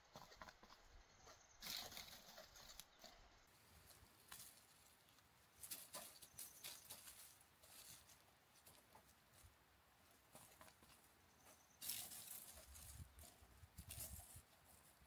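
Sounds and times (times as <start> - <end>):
rustling of dry grass and leaves: 0.0 - 15.0.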